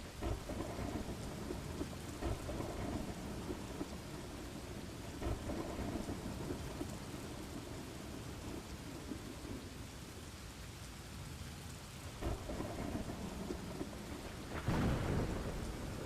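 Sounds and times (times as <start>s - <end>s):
low rumble of thunder: 0.0s - 10.4s, 11.9s - 16.0s
steady rain falling: 0.0s - 16.0s.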